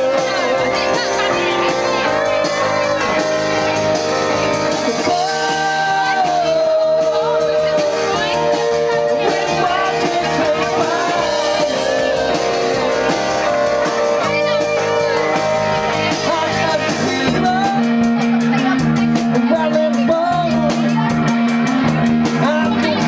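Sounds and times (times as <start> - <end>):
drums: 0.0 - 23.0
electric guitars: 0.0 - 23.0
keyboard: 0.0 - 23.0
person singing: 0.0 - 23.0.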